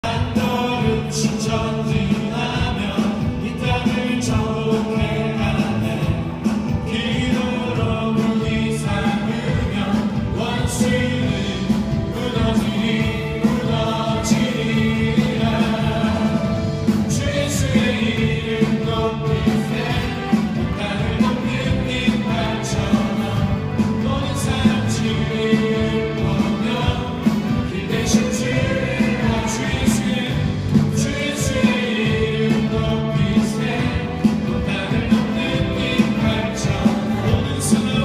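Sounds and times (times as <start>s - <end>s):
band and piano accompaniment: 0.0s - 38.0s
congregation singing: 0.0s - 38.0s.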